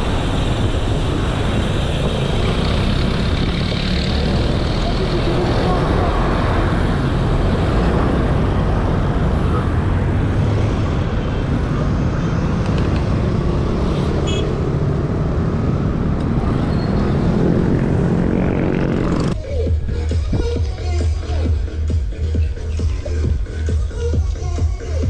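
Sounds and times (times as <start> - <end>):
wind rushing over microphone: 0.0 - 20.5.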